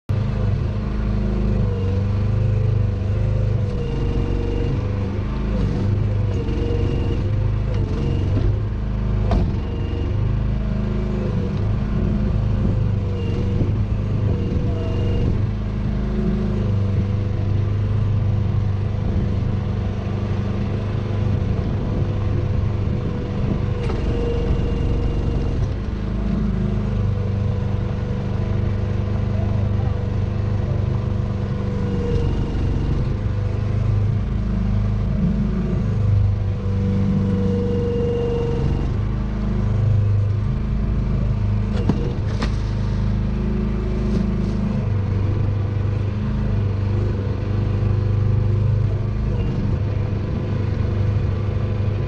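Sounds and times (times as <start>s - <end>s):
diesel engine running: 0.0s - 52.0s
hydraulic whine: 0.1s - 52.0s.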